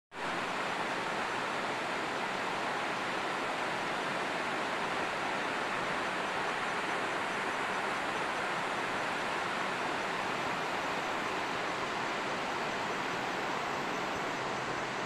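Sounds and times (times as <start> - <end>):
river water rushing over rocks: 0.2 - 15.0.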